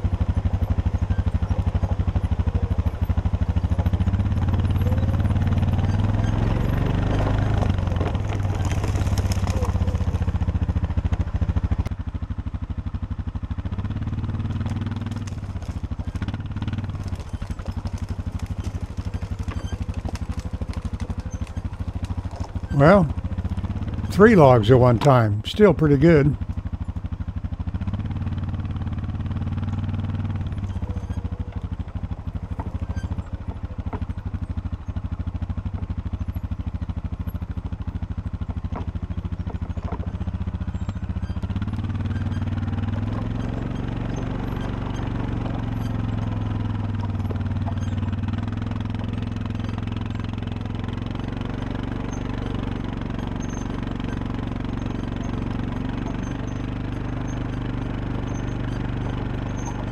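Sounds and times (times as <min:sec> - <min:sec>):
atv engine under load: 0:00.0 - 0:59.9.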